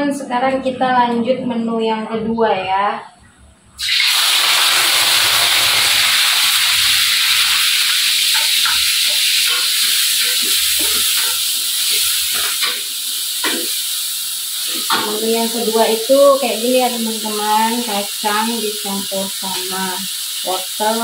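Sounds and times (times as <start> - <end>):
vegetables sizzling in hot oil: 3.8 - 21.0.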